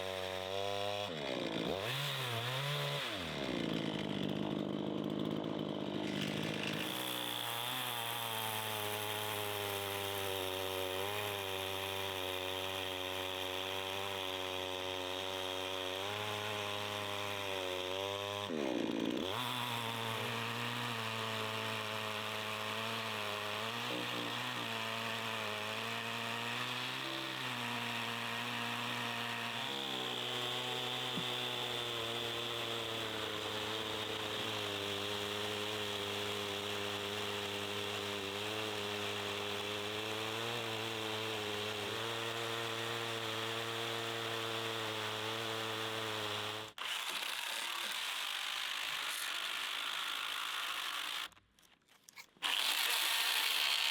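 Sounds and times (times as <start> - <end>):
chainsaw engine running: 0.0 - 51.4, 52.2 - 53.9.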